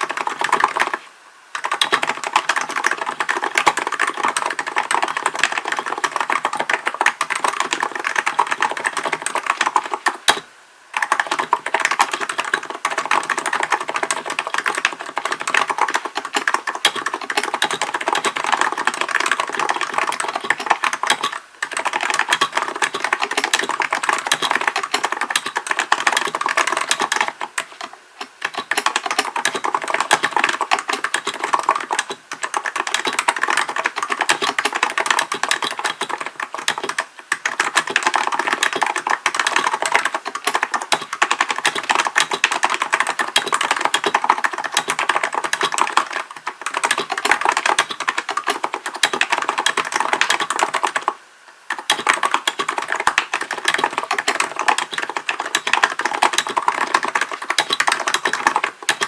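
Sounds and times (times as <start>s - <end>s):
fast typing on keyboard: 0.0s - 1.0s, 1.6s - 59.0s.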